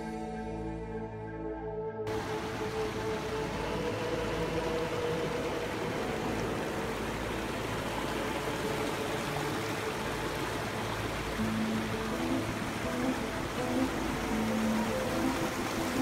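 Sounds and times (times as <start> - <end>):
mountain stream rushing: 2.1 - 16.0.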